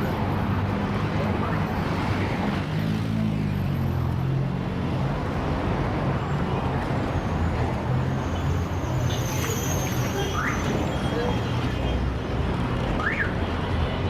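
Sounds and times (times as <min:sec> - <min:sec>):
heavy street traffic: 0:00.0 - 0:14.0.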